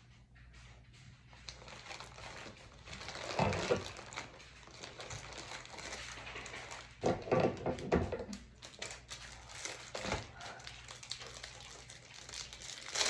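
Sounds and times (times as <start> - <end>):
plastic bag crinkling and rustling: 1.3 - 13.0.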